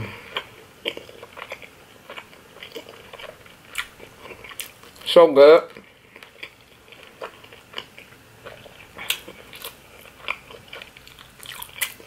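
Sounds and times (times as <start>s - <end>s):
person chewing food: 0.0s - 5.1s, 5.7s - 12.0s.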